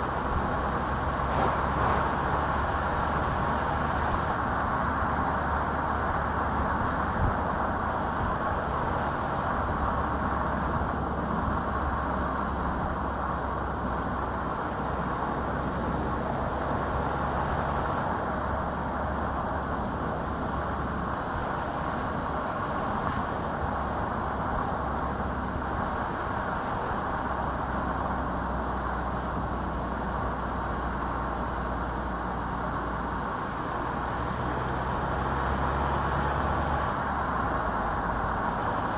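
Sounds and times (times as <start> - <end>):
car engine hum: 0.0 - 38.9
tyre road noise: 0.0 - 38.9.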